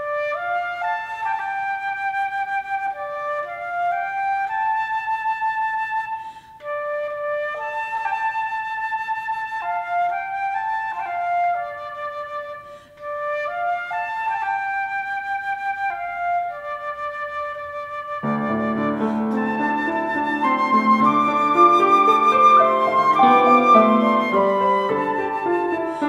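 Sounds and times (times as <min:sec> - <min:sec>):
slow flute melody: 0:00.0 - 0:26.0.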